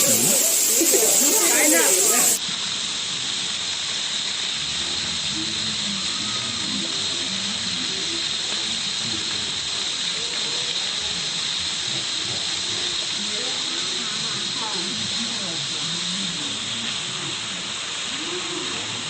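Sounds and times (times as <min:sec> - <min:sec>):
faint voices of people: 0:00.0 - 0:03.1, 0:04.8 - 0:19.0
waterfall rushing: 0:00.0 - 0:19.0.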